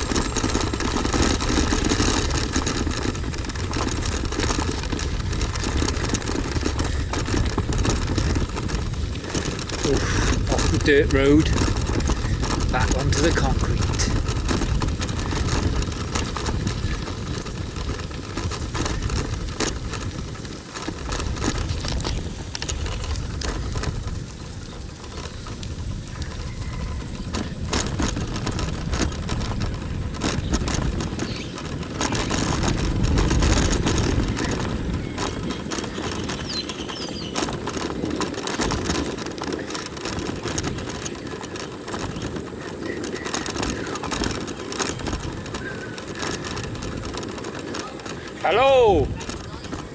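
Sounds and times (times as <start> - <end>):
bicycle rattling on concrete: 0.0 - 49.9
wind on microphone: 0.0 - 49.9.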